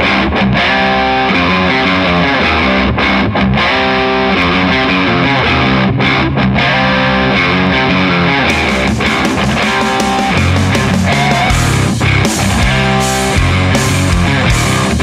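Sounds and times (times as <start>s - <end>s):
distorted electric guitar riff: 0.0s - 15.0s.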